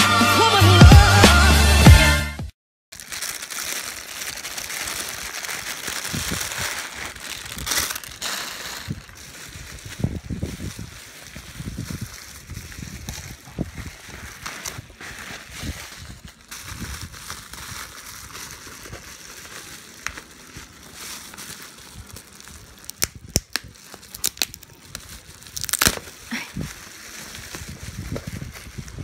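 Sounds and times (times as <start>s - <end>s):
bubble wrap crinkling: 2.9s - 29.0s
bubble wrap snapping: 2.9s - 29.0s.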